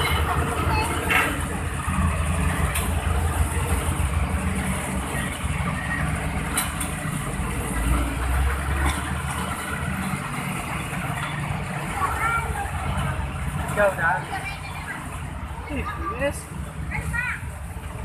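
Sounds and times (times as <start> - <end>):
diesel engines rumbling: 0.0 - 18.0.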